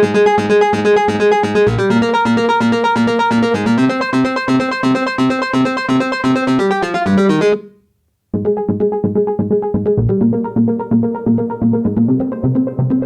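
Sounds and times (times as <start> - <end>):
fast electronic synthesizer music: 0.0 - 7.6, 8.4 - 13.0.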